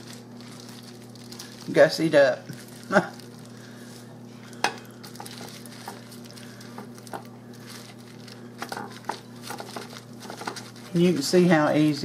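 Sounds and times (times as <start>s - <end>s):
squishing in thick dip: 0.0s - 4.2s, 4.9s - 11.5s
steady low hum: 0.0s - 12.0s.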